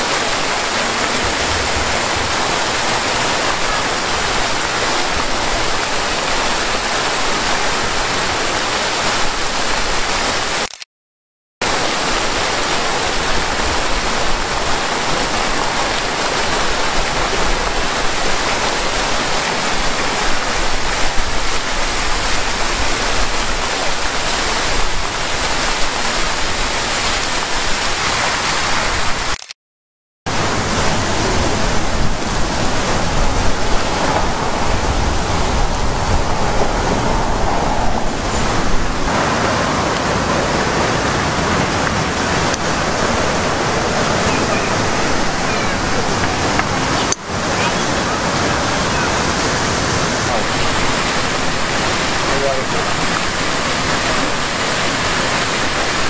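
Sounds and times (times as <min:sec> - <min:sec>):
fountain water splashing into basin: 0:00.0 - 0:10.8, 0:11.6 - 0:29.5, 0:30.3 - 0:56.0.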